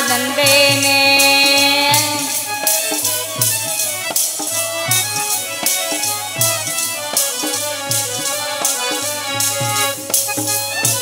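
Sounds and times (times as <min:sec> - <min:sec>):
dholak drum strokes: 0:00.0 - 0:11.0
harmonium melody: 0:00.0 - 0:11.0.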